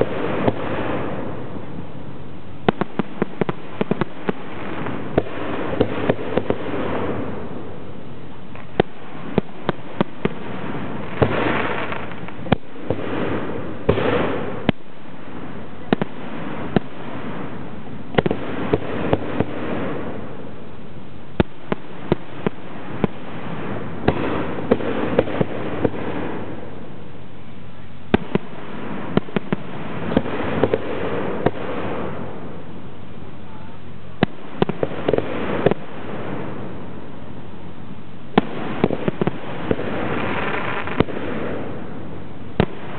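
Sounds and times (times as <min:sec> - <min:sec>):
fireworks bursting with sharp bangs: 0:00.0 - 0:42.9
rushing crackling noise: 0:00.0 - 0:42.9.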